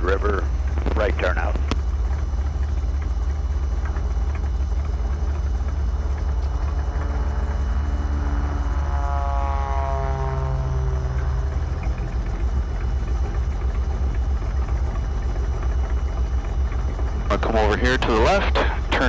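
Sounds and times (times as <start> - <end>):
airplane engine idling: 0.0 - 19.0
propeller airplane passing: 0.0 - 19.0.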